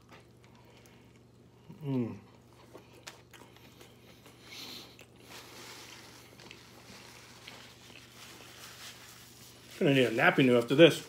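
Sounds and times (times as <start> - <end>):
person chewing food: 0.0 - 9.7.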